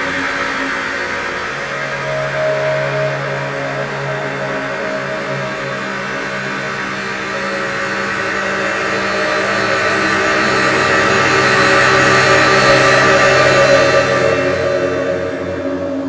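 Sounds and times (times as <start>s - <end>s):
synthesizer drone music: 0.0s - 16.0s.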